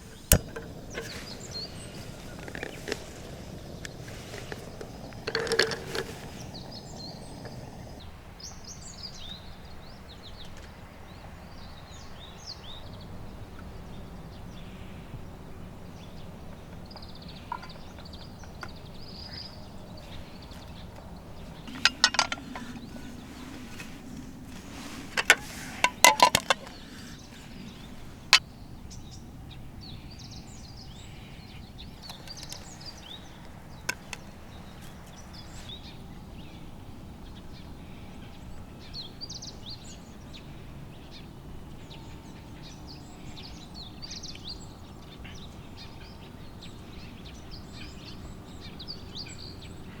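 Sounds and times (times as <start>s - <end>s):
birds chirping: 0.0s - 50.0s
low background hiss: 0.0s - 50.0s.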